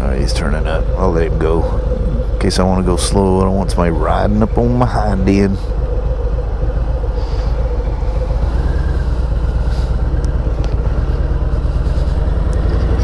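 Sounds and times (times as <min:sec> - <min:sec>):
motorcycle engine running low: 0:00.0 - 0:13.0.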